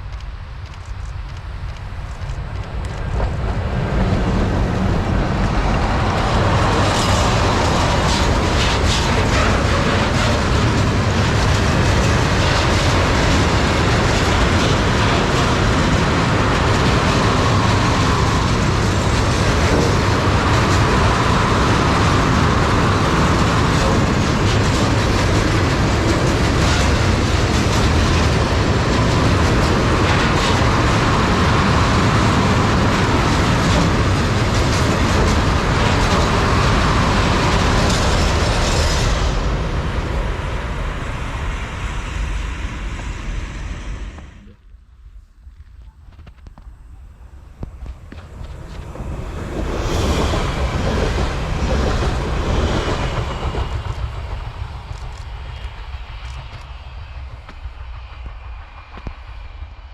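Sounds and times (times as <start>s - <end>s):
electric train passing: 0.0s - 59.9s.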